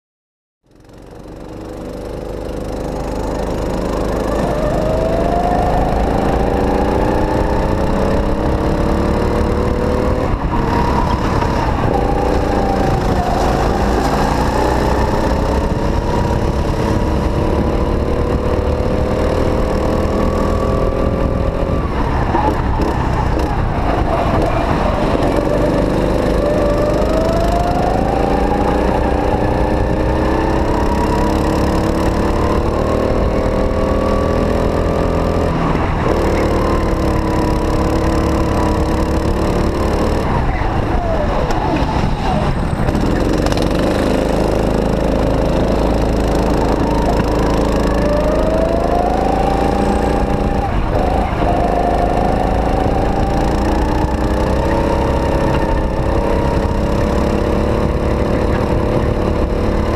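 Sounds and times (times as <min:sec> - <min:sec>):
go-kart engine revving: 0:00.7 - 0:59.9.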